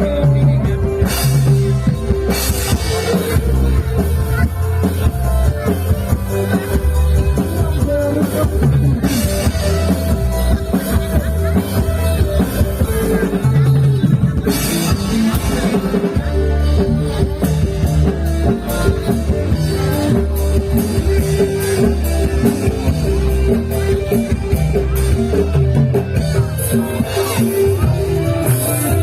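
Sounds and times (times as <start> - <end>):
drums beating: 0.0 - 29.0.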